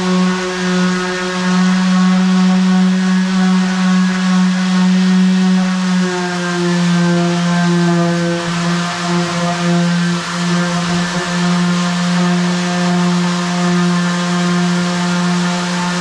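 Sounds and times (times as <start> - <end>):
electric sander on wood: 0.0 - 16.0.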